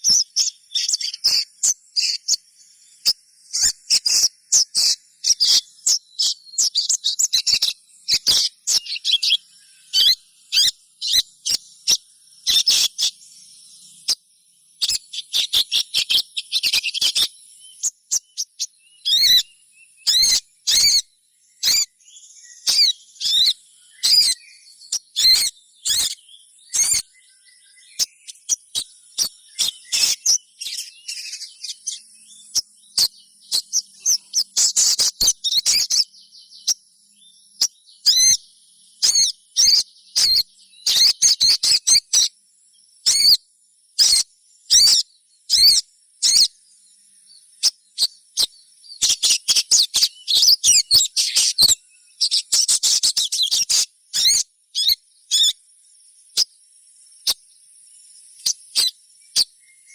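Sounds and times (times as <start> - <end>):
bird twittering: 0.0 - 14.2, 14.8 - 42.3, 43.0 - 43.4, 44.0 - 46.6, 47.3 - 55.6, 58.4 - 59.9
bird chirping: 0.0 - 59.9.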